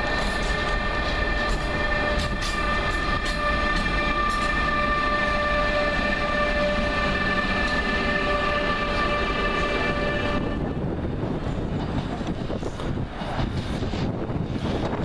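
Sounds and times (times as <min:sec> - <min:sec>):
freight train wagons rumbling: 0:00.0 - 0:15.0.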